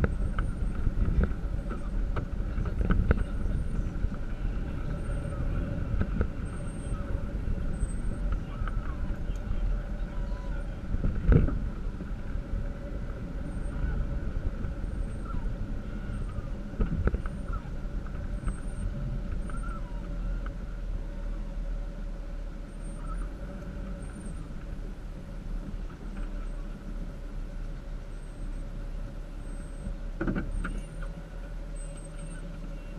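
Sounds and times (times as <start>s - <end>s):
engine and tyre rumble: 0.0s - 32.9s
vehicle rattling over bumps: 0.0s - 32.9s.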